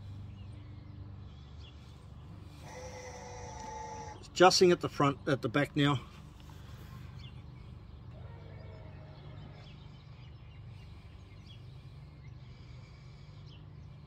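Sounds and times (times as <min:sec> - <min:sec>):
jack motors humming: 0:00.0 - 0:14.0.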